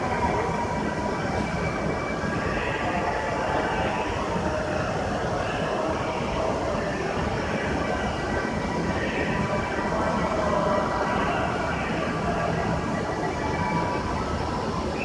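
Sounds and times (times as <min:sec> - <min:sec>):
faint steady whine: 0:00.0 - 0:15.0
train running noise: 0:00.0 - 0:15.0.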